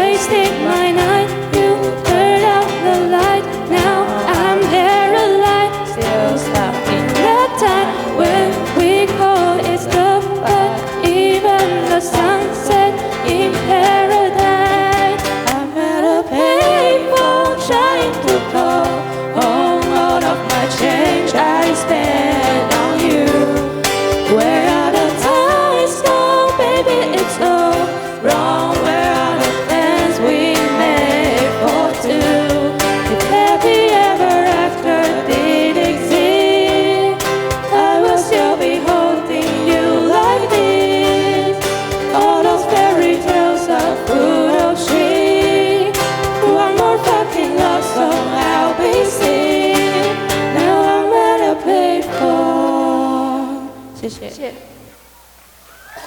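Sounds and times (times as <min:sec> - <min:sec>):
pop song with singing: 0:00.0 - 0:55.1.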